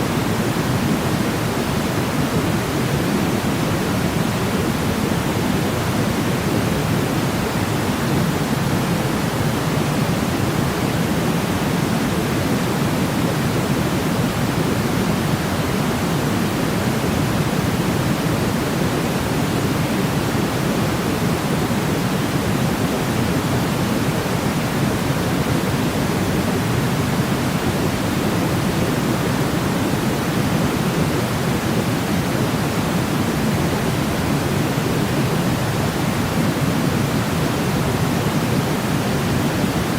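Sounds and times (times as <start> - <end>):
steady pink noise: 0.0 - 39.9.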